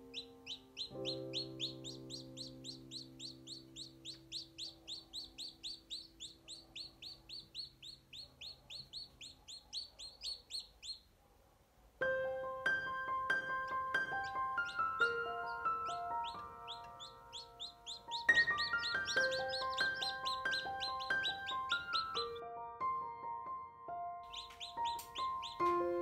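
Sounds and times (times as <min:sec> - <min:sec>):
chicks peeping: 0:00.0 - 0:11.2, 0:13.0 - 0:22.4, 0:24.2 - 0:26.0.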